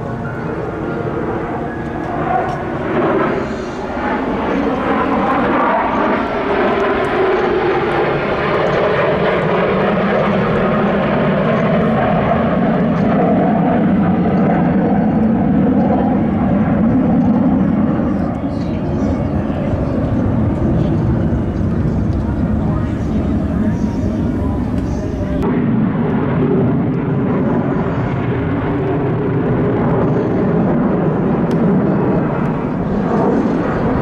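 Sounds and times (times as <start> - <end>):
fighter jets flying past: 0.0 - 34.0.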